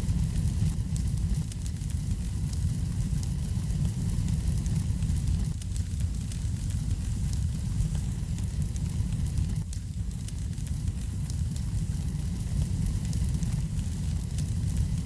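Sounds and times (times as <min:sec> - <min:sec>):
fire crackles and pops: 0:00.0 - 0:15.0
wood fire crackling: 0:00.0 - 0:15.0.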